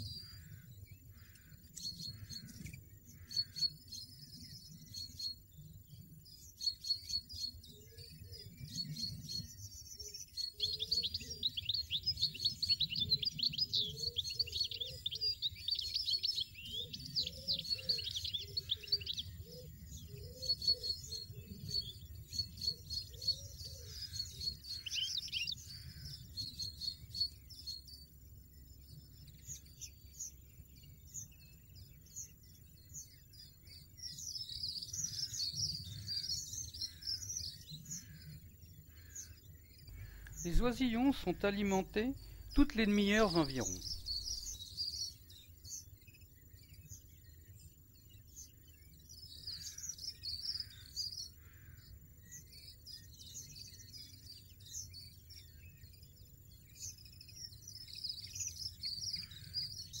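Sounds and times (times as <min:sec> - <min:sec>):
finches twittering: 0:00.0 - 0:28.1, 0:28.7 - 1:00.0.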